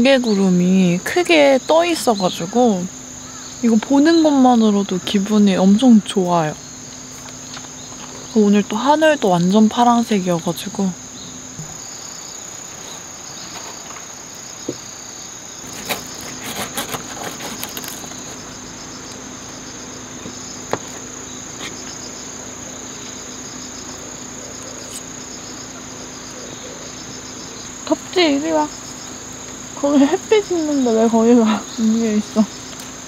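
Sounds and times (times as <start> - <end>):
insect chorus chirring: 0.0 - 33.0.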